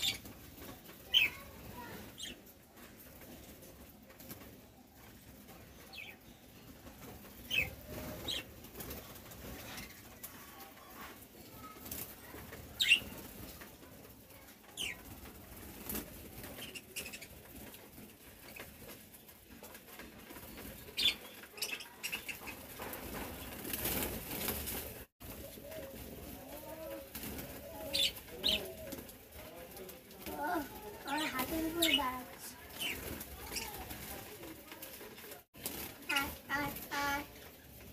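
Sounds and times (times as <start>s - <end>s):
wings fluttering: 0.0s - 37.9s.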